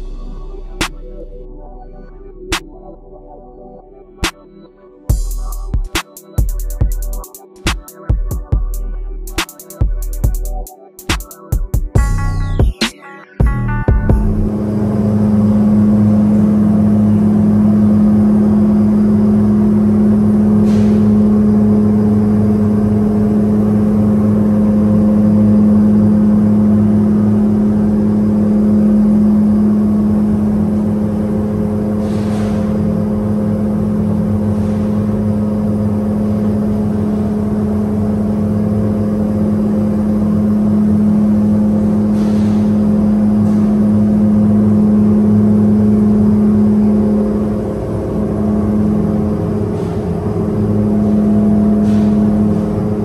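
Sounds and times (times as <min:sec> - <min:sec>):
steady machine hum: 0:00.0 - 0:07.3, 0:13.4 - 0:53.0.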